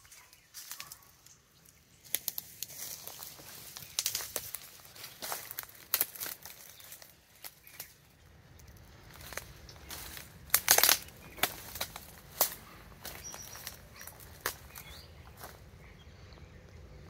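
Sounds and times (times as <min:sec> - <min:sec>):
footsteps crunching dry grass: 0:00.0 - 0:16.0.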